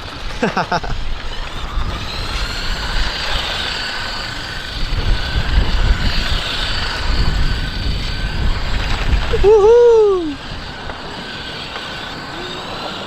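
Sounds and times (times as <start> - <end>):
toy car electric motors whining: 0.0 - 13.0.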